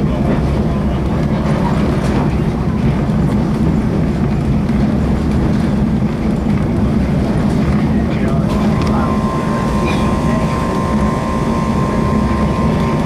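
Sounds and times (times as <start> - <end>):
train rumbling and rattling: 0.0 - 13.0.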